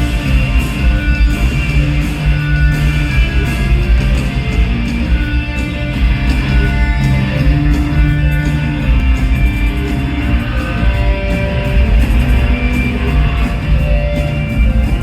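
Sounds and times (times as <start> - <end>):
electric guitars: 0.0 - 15.0
live rock band playing: 0.0 - 15.0.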